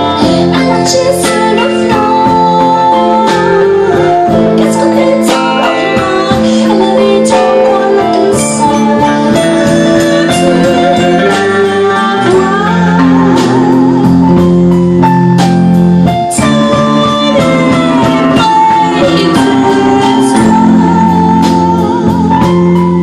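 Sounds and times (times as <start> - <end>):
woman singing: 0.0 - 14.7, 16.2 - 23.0
live band playing: 0.0 - 23.0.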